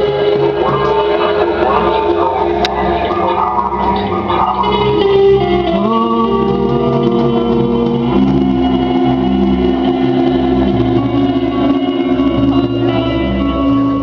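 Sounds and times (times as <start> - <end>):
electric guitar: 0.0 - 14.0.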